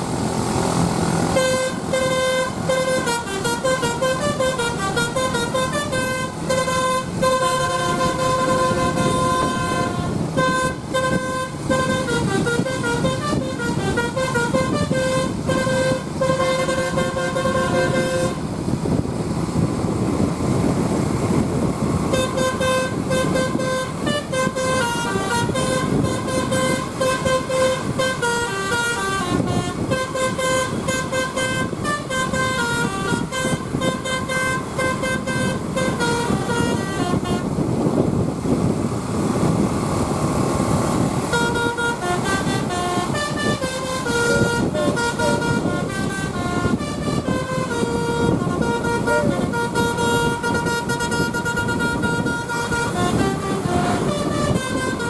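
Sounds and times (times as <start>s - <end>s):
steady low rumble: 0.0s - 55.0s
musical air horn playing a tune: 1.3s - 18.6s, 22.1s - 38.0s, 41.3s - 55.0s.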